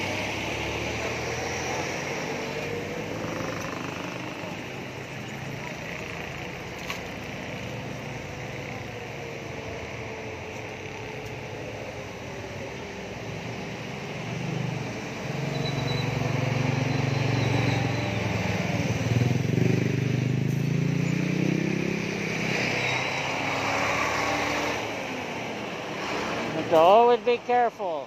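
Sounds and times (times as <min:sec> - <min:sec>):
vehicles passing on highway: 0:00.0 - 0:28.0.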